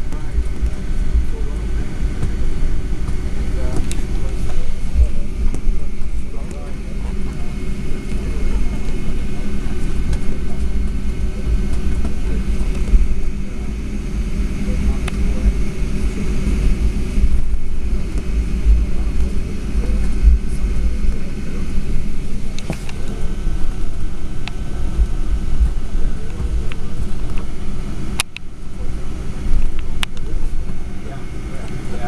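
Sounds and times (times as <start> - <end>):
jet engines low rumble: 0.0 - 32.0.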